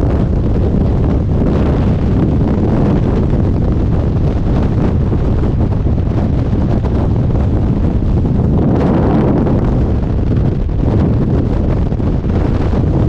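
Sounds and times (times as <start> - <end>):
freefall wind rushing over microphone: 0.0 - 13.0.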